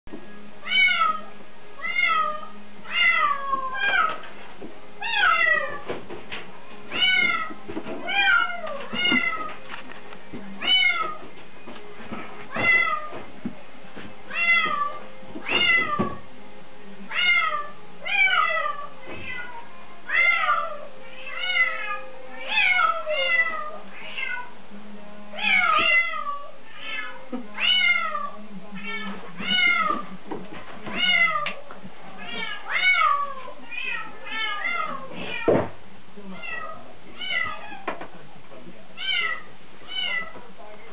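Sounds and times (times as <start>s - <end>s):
faint low hum: 0.1s - 40.9s.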